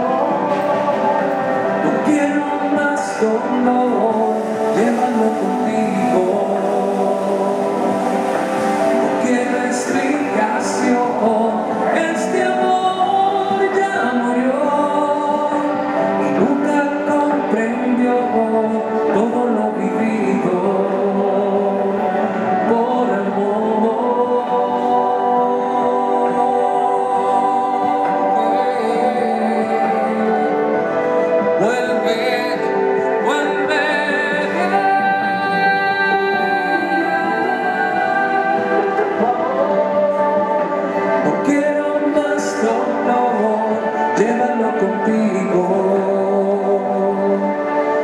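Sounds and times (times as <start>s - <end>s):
man singing a love ballad: 0.0s - 48.0s.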